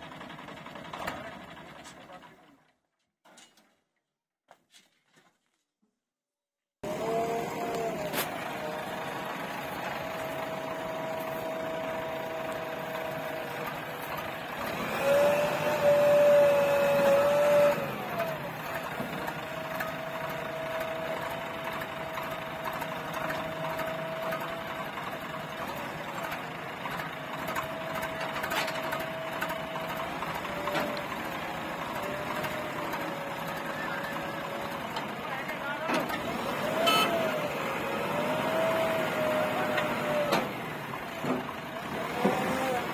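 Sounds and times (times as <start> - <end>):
backhoe loader engine whine: 0.0 - 2.7, 6.8 - 42.9.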